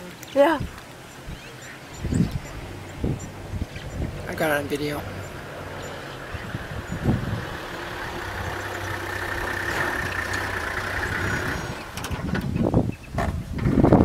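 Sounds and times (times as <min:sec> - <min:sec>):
vehicle engine idling: 0:01.6 - 0:12.8.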